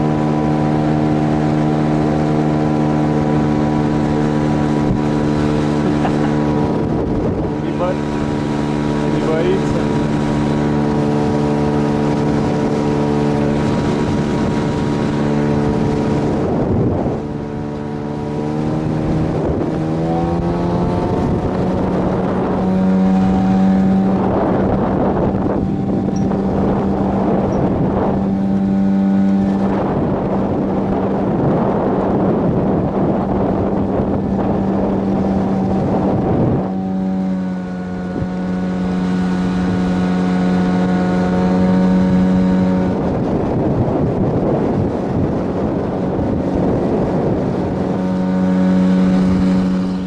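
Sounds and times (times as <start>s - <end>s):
outboard motor running: 0.0s - 50.0s
wind buffeting microphone: 0.0s - 50.0s.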